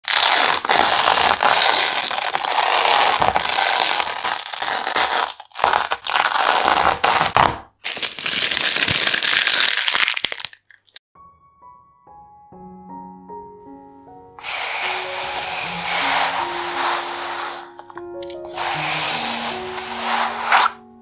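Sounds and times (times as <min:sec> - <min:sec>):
tape being peeled off: 0:00.0 - 0:10.6, 0:14.4 - 0:20.8.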